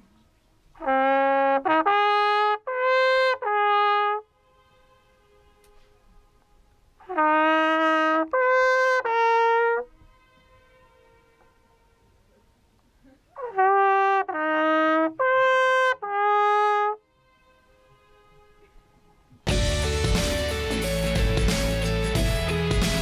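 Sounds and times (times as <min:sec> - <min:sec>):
brass horn playing held notes: 0:00.2 - 0:23.0
horn echo: 0:00.7 - 0:12.4, 0:13.3 - 0:23.0.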